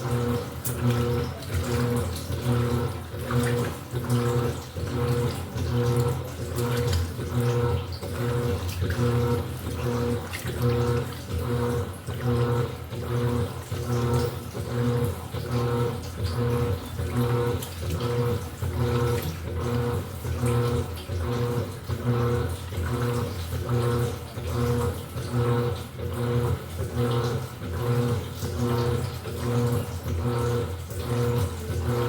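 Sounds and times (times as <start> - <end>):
washing machine motor humming: 0.0 - 32.0
water sloshing: 0.0 - 32.0.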